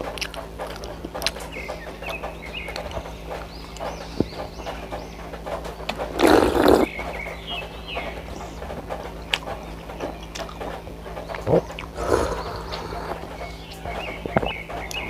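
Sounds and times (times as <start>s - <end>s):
chewing with mouth clicks: 0.0s - 15.0s.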